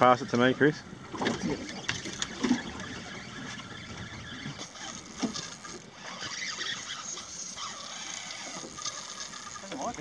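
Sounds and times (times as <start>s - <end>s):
water against boat hull: 0.0s - 10.0s
wind: 0.0s - 10.0s.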